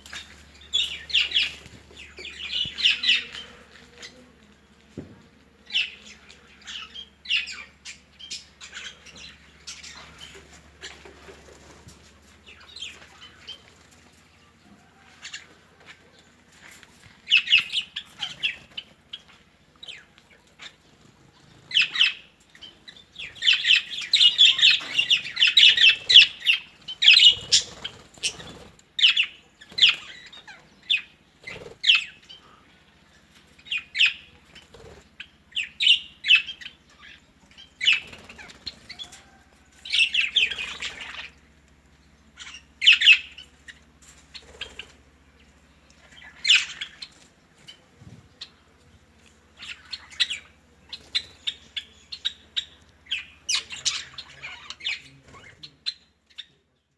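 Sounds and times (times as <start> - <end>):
birds squawking and chirping: 0.0 - 56.9.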